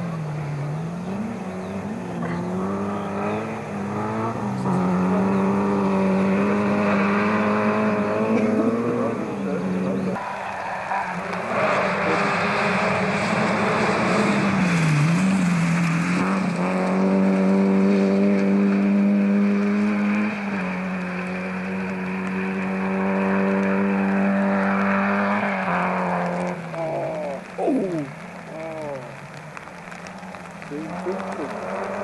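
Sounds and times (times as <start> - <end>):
rally car engine at high revs: 0.0 - 32.0.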